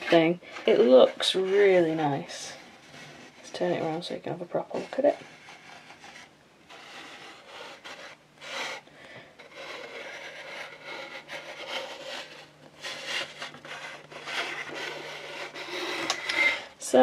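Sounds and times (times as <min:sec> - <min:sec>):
plastic figure scraping on stand: 0:00.0 - 0:08.8, 0:09.4 - 0:16.8.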